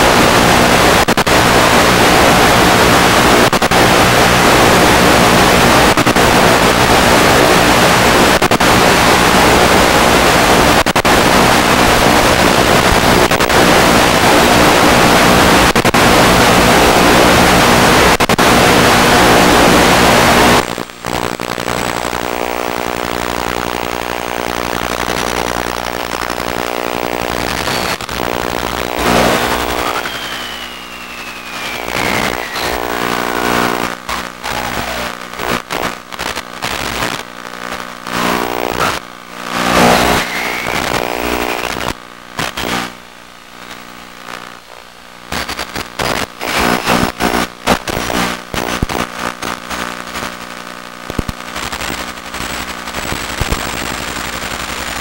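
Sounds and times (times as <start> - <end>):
steady buzzing hum: 0.0 - 45.4
radio static hiss: 0.0 - 55.0.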